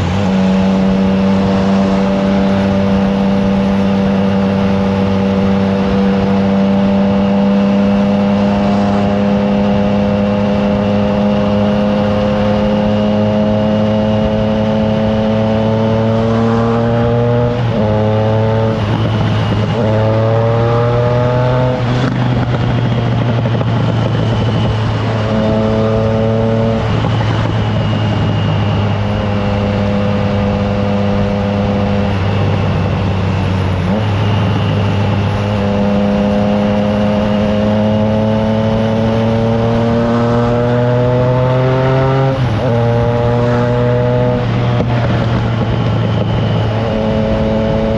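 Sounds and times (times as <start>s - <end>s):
motorcycle engine: 0.0s - 47.9s
wind noise: 0.0s - 47.9s.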